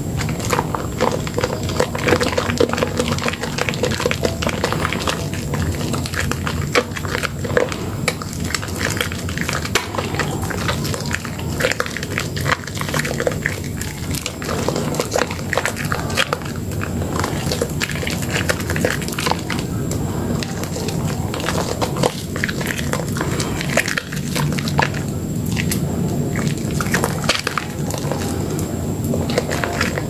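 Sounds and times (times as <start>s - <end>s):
wet lather squelching: 0.0s - 30.0s.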